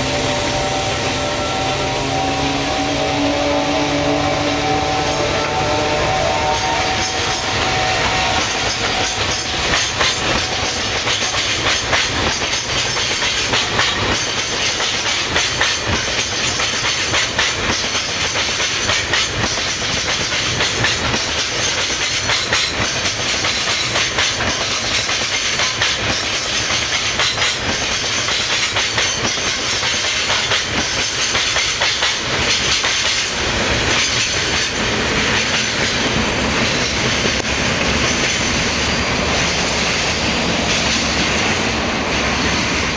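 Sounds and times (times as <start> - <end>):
deep train rumble: 0.0 - 42.9
train wheels clattering: 6.4 - 42.9.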